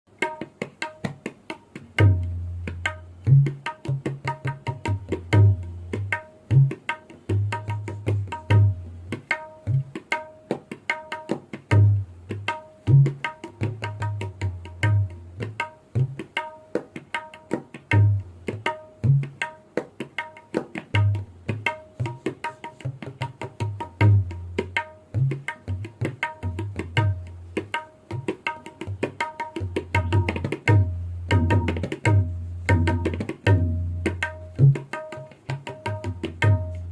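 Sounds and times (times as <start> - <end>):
tabla rhythm: 0.1 - 36.9.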